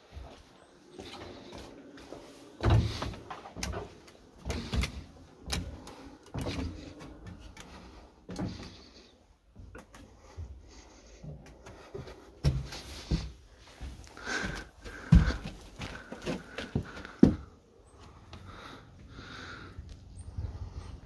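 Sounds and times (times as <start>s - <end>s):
footsteps on wooden ladder rungs: 0.0s - 18.7s.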